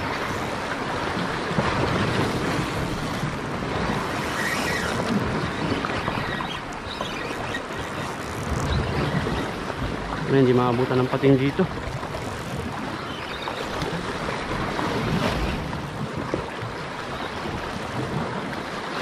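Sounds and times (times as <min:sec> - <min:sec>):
sea waves on rocky shore: 0:00.0 - 0:19.0
wind buffeting microphone: 0:00.0 - 0:19.0.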